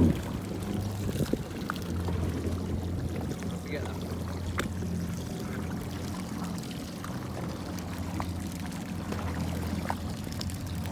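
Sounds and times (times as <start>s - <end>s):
jet ski engine running: 0.0s - 10.9s
water splashing against hull: 0.0s - 10.9s.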